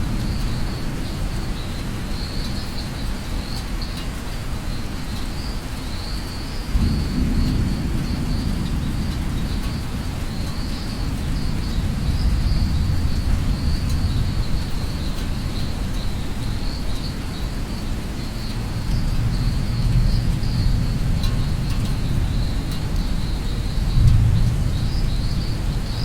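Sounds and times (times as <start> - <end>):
steady rain: 0.0 - 26.0
insects chirring: 4.8 - 26.0.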